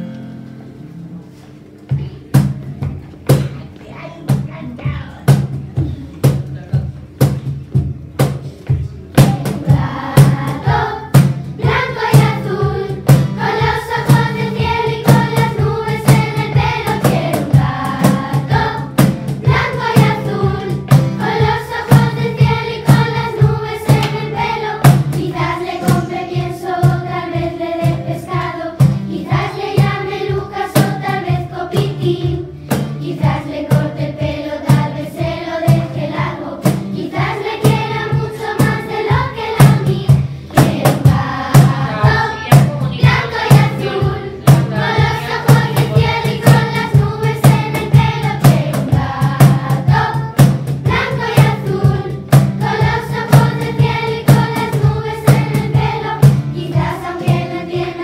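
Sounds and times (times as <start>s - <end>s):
acoustic guitar: 0.0s - 58.0s
cajon beat: 1.8s - 58.0s
children's choir singing: 9.2s - 58.0s.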